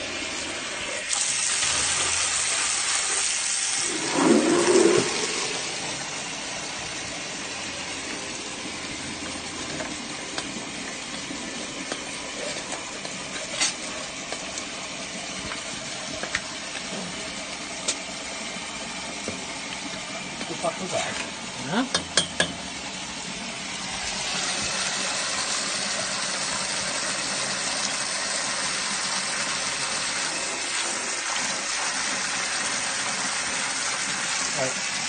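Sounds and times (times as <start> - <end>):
hiss of spray and flowing water: 0.0 - 35.0
water jetting through a drain: 0.0 - 35.0.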